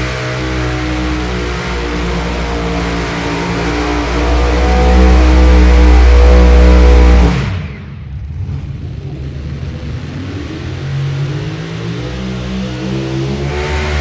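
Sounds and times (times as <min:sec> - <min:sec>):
low engine rumble: 0:00.0 - 0:14.0
tractor engines at full throttle: 0:00.0 - 0:14.0.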